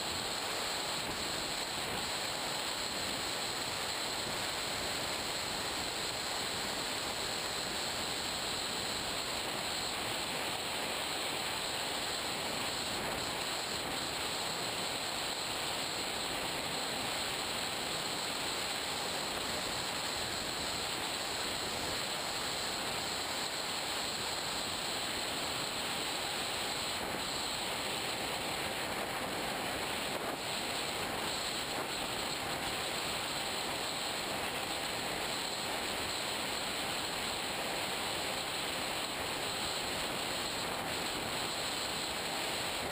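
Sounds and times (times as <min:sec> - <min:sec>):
electric motor and propeller: 0:00.0 - 0:42.9.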